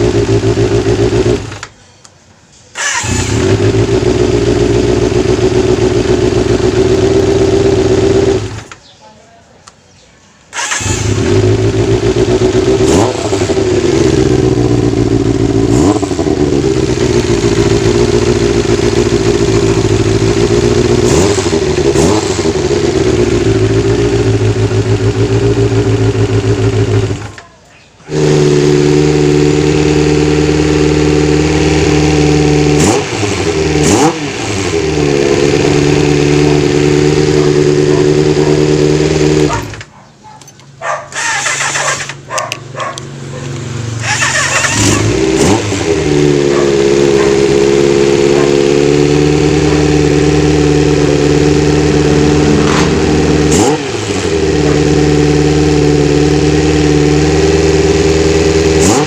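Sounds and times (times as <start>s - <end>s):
motorcycle engine revving: 0.0s - 1.7s, 2.7s - 8.8s, 10.5s - 27.4s, 28.0s - 40.0s, 40.7s - 59.0s.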